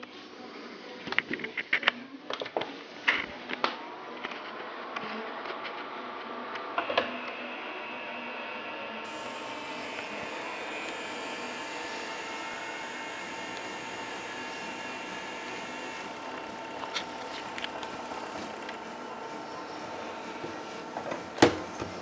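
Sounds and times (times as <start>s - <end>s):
projector cooling fan whirring: 2.8s - 22.0s.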